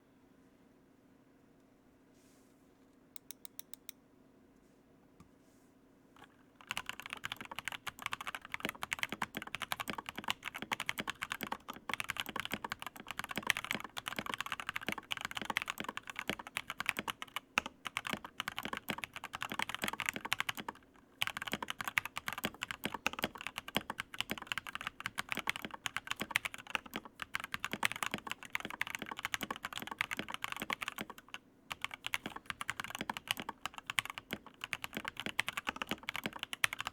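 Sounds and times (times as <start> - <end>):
typing on mechanical keyboard: 6.6 - 36.9.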